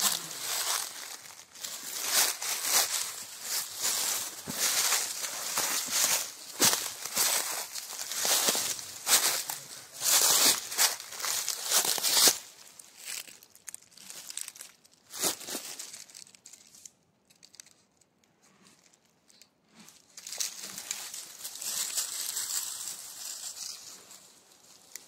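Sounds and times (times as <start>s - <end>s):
dry leaves crackling underfoot: 0.0s - 17.8s, 20.0s - 25.0s.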